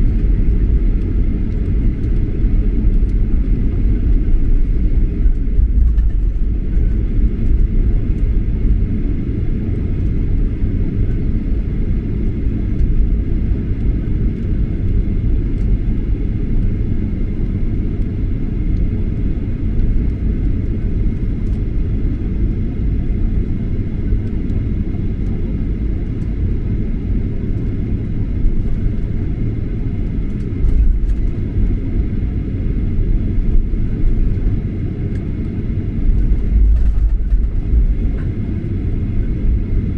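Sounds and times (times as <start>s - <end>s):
airliner cabin engine rumble: 0.0s - 39.9s
faint steady whine: 0.0s - 39.9s.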